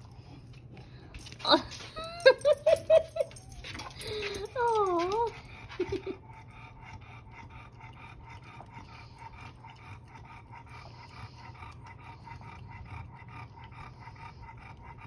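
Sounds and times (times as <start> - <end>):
dog licking: 0.0 - 15.0.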